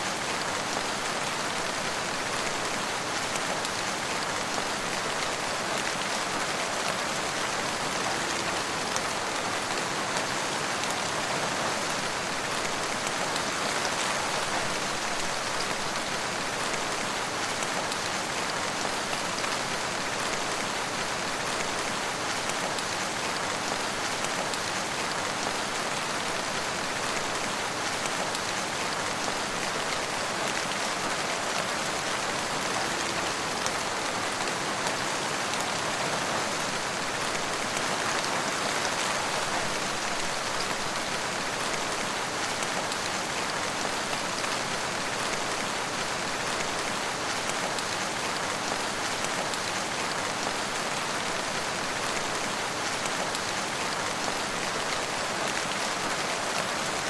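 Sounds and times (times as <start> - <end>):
rain patter on a surface: 0.0 - 57.0.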